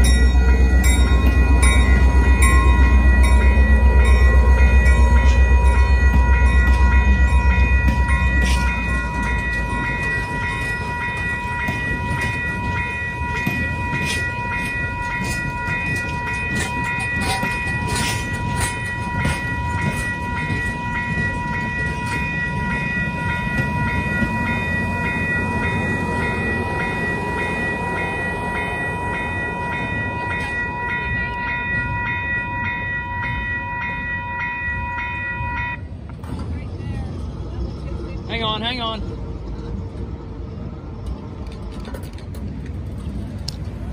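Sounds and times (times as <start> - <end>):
crossing bell ringing: 0.0 - 36.1
train coaches rolling past: 0.0 - 43.9.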